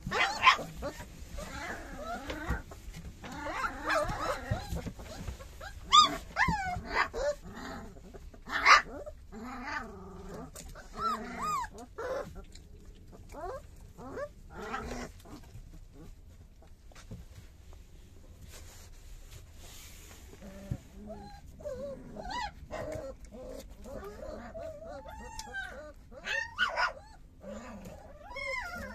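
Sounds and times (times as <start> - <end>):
puppies whining and squealing: 0.0 - 16.7, 20.3 - 28.9.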